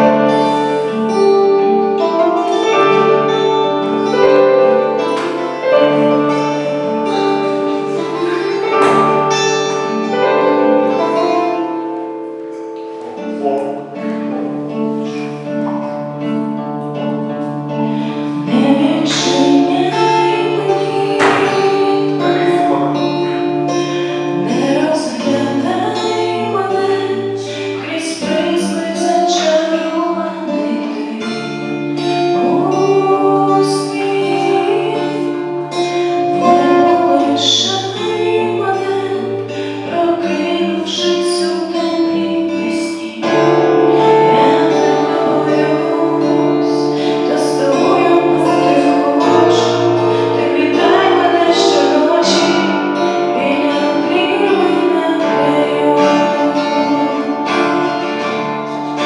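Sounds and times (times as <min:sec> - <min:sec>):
pop ballad instrumental: 0:00.0 - 0:59.0
sustained keyboard chords: 0:00.0 - 0:59.0.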